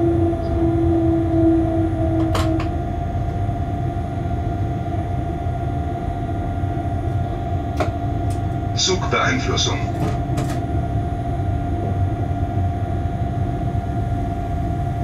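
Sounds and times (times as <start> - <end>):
locomotive cab rumble: 0.0 - 13.7
pitched humming tone: 0.0 - 15.0.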